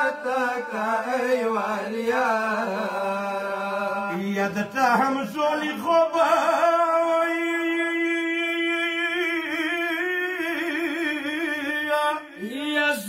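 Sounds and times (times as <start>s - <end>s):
man chanting a lament: 0.0s - 13.0s.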